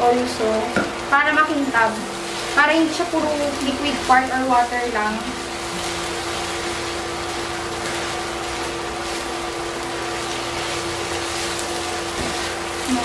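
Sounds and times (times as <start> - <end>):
rice sizzling in a frying pan: 0.0 - 13.0.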